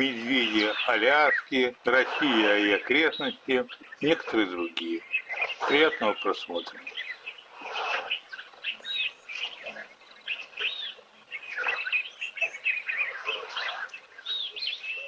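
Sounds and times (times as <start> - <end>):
wild birds chirping and whistling: 0.0 - 15.0.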